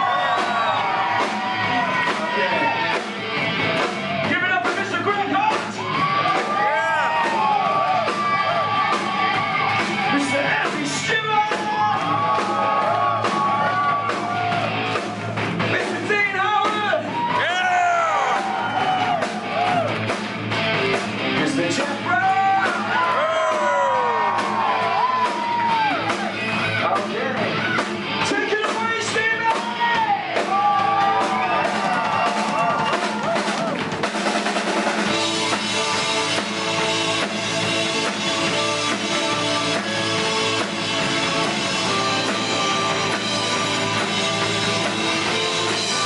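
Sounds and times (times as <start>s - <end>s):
live rock band: 0.0s - 46.0s.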